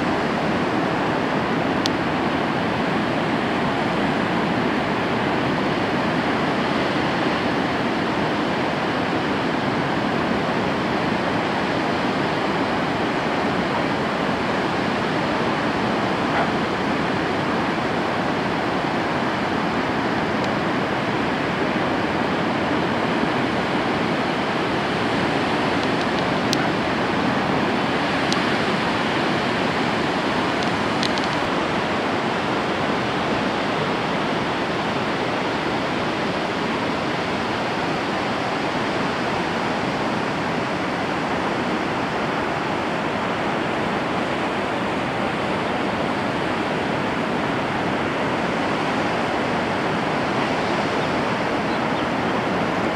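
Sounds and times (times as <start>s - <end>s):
ocean waves breaking: 0.0s - 52.9s.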